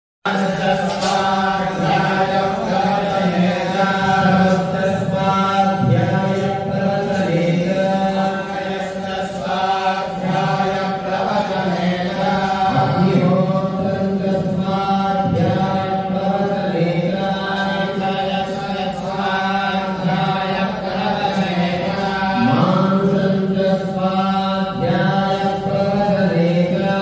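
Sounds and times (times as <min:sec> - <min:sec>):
mantras chanted: 0:00.3 - 0:27.0.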